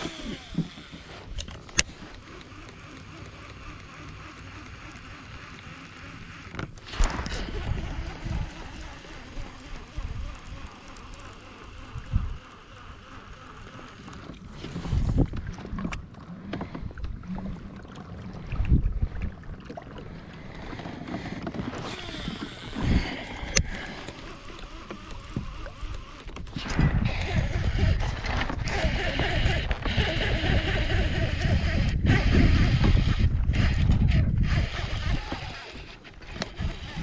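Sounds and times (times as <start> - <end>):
water and air noise: 0.0 - 37.0.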